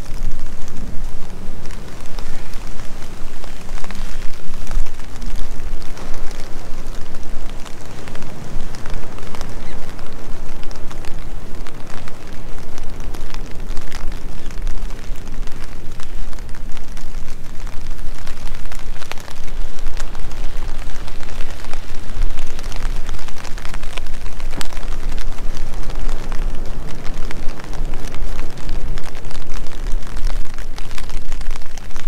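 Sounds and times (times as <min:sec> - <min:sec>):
low rumble of rain: 0:00.0 - 0:32.0
raindrops ticking: 0:00.0 - 0:32.0.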